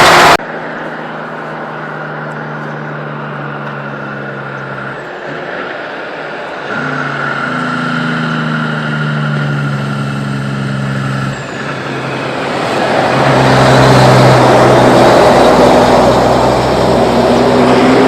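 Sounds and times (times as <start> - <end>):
truck diesel engine: 0.0 - 18.0
tyre and road noise: 0.0 - 18.0.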